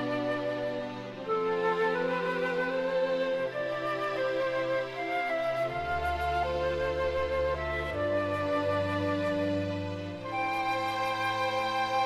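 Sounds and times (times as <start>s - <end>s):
slow gentle melody: 0.0s - 12.0s.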